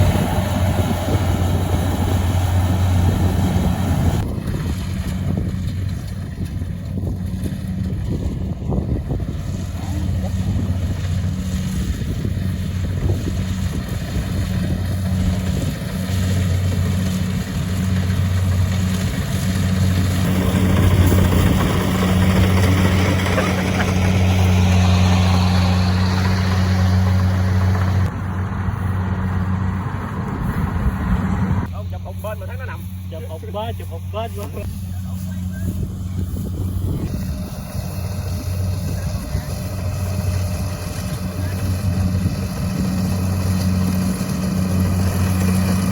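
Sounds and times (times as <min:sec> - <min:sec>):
engine running with low hum: 0:00.0 - 0:45.9.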